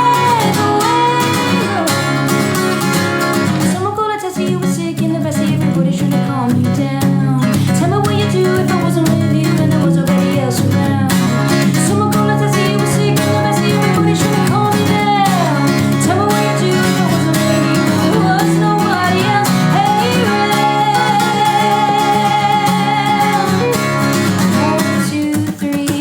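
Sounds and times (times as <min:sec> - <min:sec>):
strummed acoustic guitar: 0:00.0 - 0:26.0
woman singing: 0:00.0 - 0:26.0.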